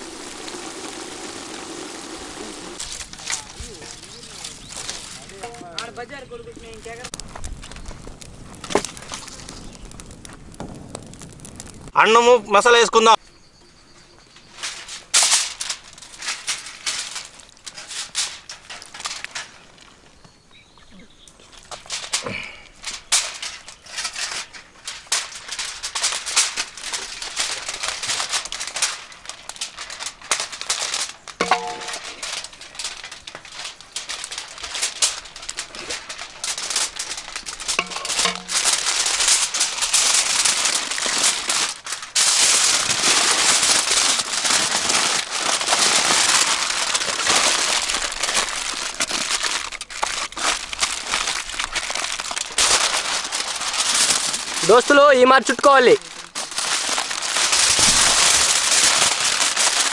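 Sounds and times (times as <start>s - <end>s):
aluminium foil crinkling: 0.0s - 12.3s, 14.3s - 20.4s, 21.2s - 59.9s.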